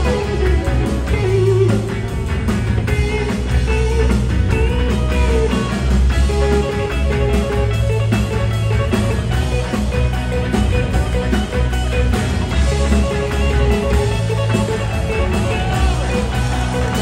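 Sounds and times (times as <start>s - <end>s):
bass: 0.0s - 17.0s
drums: 0.0s - 17.0s
electric guitar lines: 0.0s - 17.0s.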